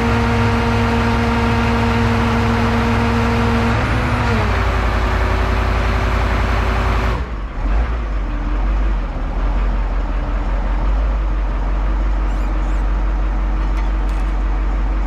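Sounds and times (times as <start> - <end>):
forklift engine rumble: 0.0 - 15.0.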